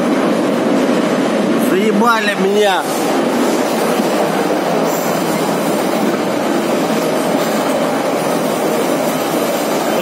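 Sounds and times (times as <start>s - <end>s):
train rushing through tunnel: 0.0s - 10.0s.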